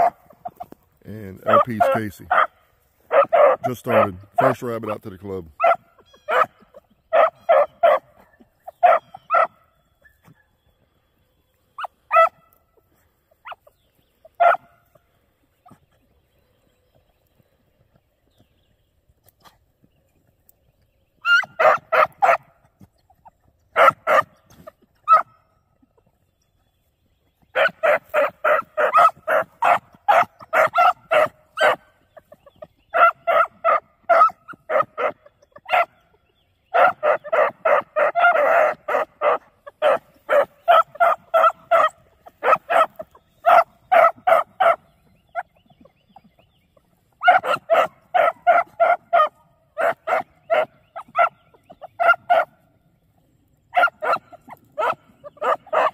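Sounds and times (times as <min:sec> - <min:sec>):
puppies yelping: 0:00.0 - 0:10.9, 0:11.7 - 0:18.1, 0:19.4 - 0:26.3, 0:27.3 - 0:55.9.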